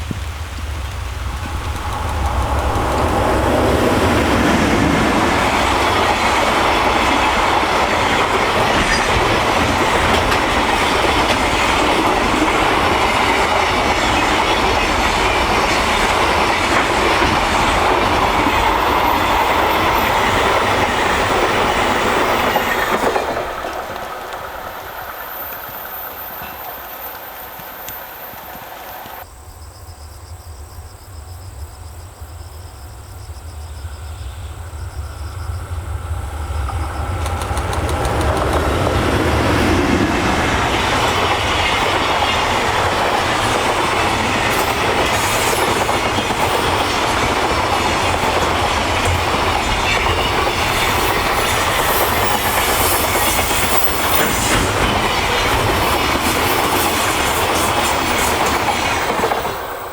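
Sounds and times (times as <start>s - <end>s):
wheels clacking over rail joints: 0.0s - 29.3s, 35.8s - 59.9s
freight train rumble: 0.0s - 59.9s.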